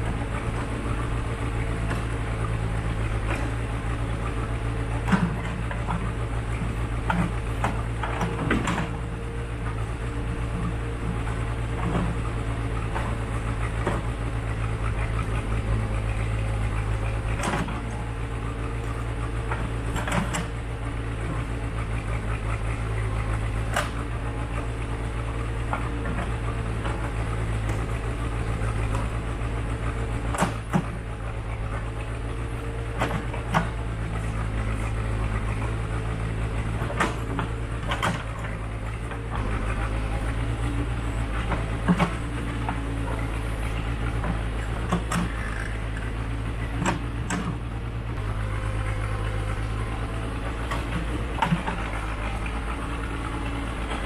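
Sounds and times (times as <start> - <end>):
backhoe engine running: 0.0 - 54.0.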